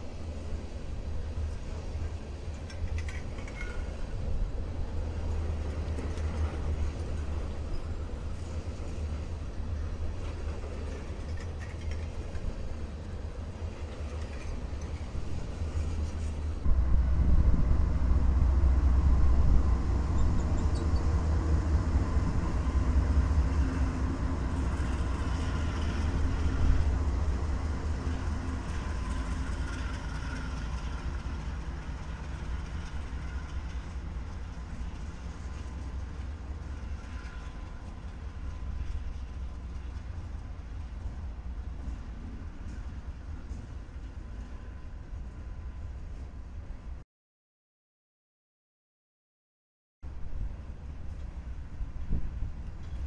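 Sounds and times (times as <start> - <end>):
diesel locomotive engine hum: 0.0 - 47.0, 50.1 - 53.0
freight train rumbling past: 0.0 - 47.0.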